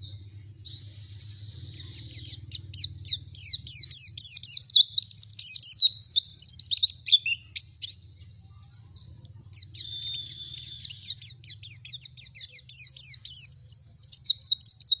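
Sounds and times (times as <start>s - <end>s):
white-eye twittering song: 0.0s - 15.0s.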